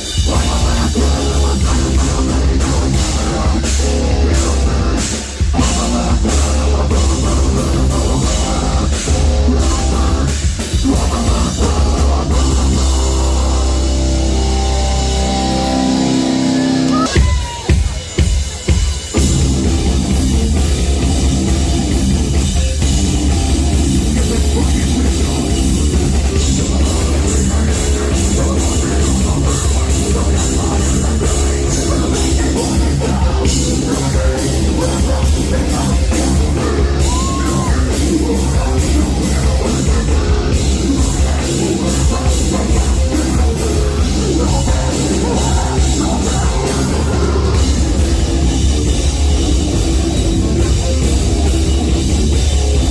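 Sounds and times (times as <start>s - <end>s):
drum kit: 0.0s - 52.9s
heavy metal band playing: 0.0s - 52.9s.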